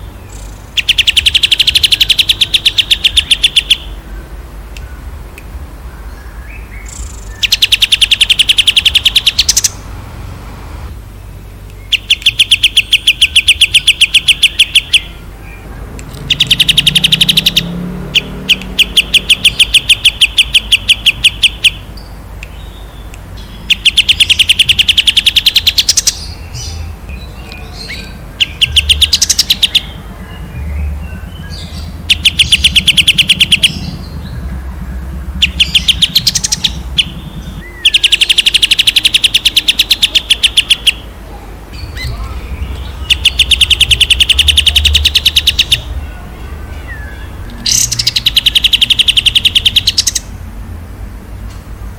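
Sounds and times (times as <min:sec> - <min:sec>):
songbird rapid repeated notes: 0:00.0 - 0:10.1, 0:10.9 - 0:50.4.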